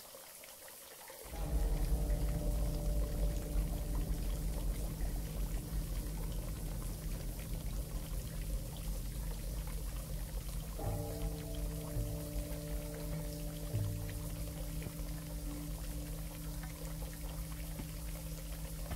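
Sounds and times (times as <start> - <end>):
low steady hum: 1.3 - 18.9
shower water spraying: 1.3 - 18.9.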